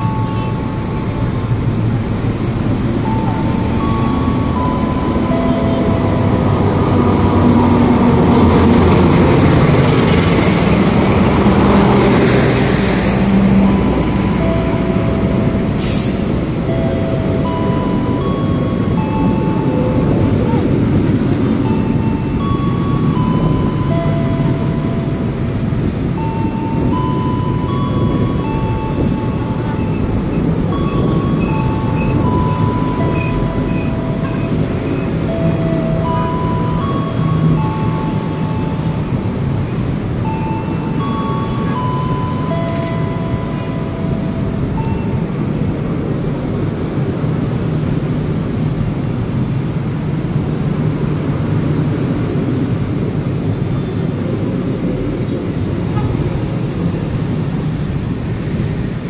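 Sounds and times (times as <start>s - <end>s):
diesel locomotive passing: 0.0s - 59.0s
train wheels rumbling on rails: 0.0s - 59.0s.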